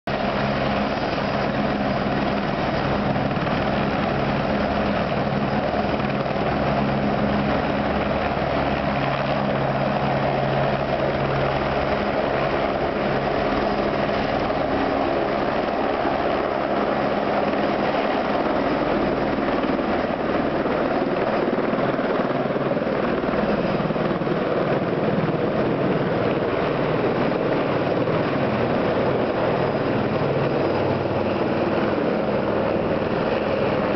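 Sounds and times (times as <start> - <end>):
helicopter turbine and rotor noise: 0.1 - 33.9.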